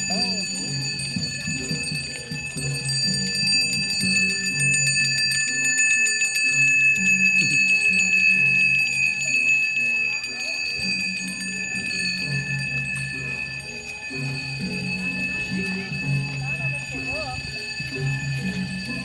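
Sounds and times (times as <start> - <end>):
hand bell ringing: 0.0 - 19.0.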